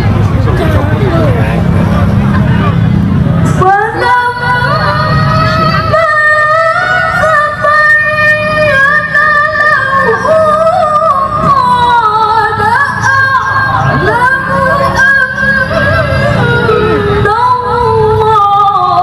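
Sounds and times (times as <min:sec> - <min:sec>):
woman reciting melodically: 0:03.5 - 0:19.0.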